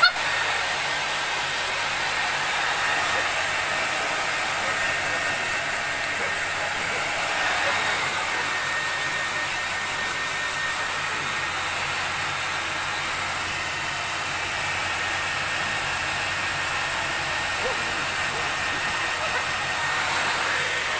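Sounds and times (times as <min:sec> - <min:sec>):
hair dryer blowing: 0:00.0 - 0:20.9.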